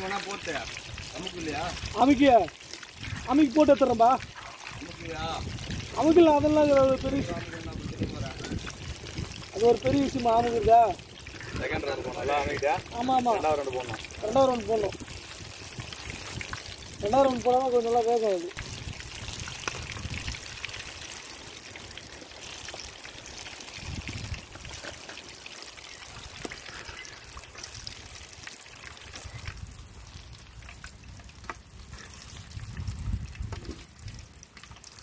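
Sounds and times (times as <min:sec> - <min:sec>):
hot oil sizzling with pops: 0:00.0 - 0:35.0.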